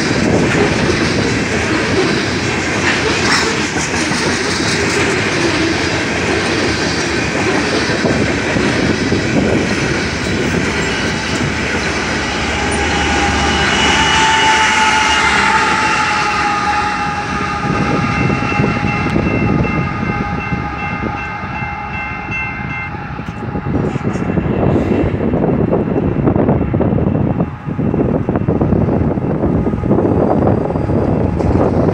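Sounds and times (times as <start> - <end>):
locomotive whine: 0.0 - 31.9
train wheels rumbling on rails: 0.0 - 31.9.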